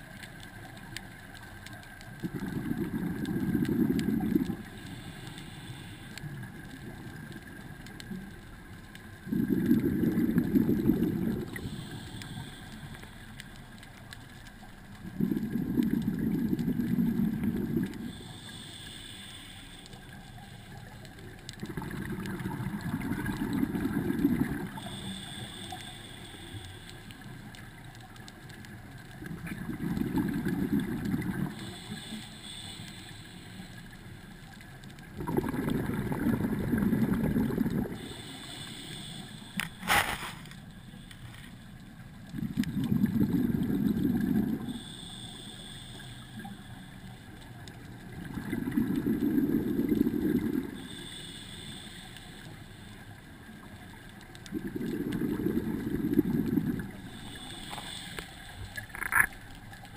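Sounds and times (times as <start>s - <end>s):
exhaled air bubbling: 0.0s - 59.9s
regulator inhale hiss: 3.0s - 8.3s, 9.1s - 14.6s, 15.2s - 28.4s, 30.0s - 34.7s, 35.9s - 41.8s, 42.8s - 48.1s, 49.2s - 54.3s, 55.0s - 59.0s.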